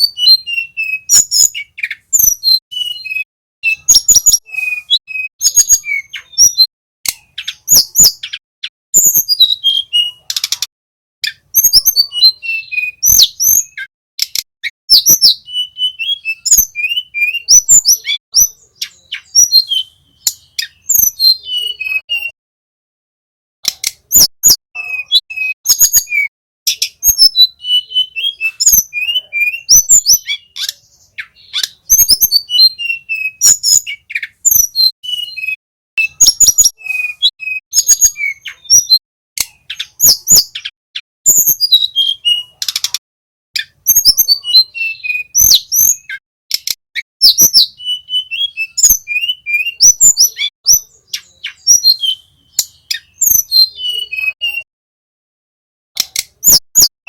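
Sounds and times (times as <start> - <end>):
bird chirping and whistling: 0.0 - 22.4, 23.6 - 43.0, 43.6 - 54.7, 56.0 - 57.0.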